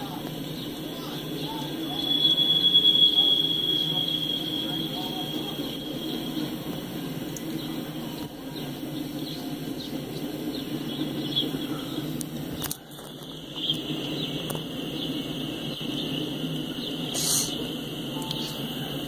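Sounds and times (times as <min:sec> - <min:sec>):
steel wheels rumbling on rails: 0:00.0 - 0:19.0.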